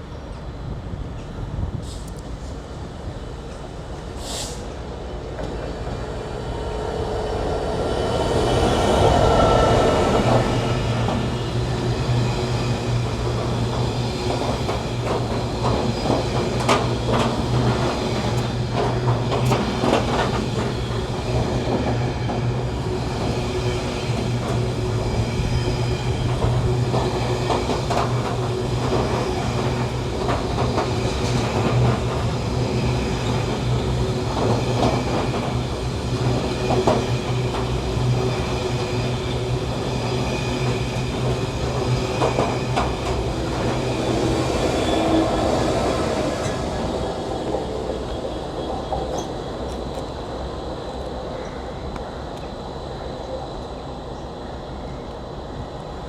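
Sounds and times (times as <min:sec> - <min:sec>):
train running on rails: 0:00.0 - 0:56.0.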